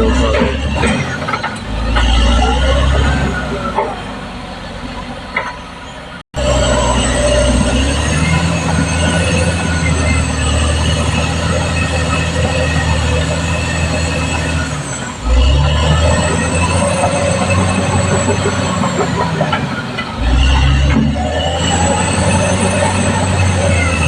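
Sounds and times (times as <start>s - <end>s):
bulldozer diesel engine under load: 0.0s - 24.0s
steel tracks squealing: 0.0s - 24.0s.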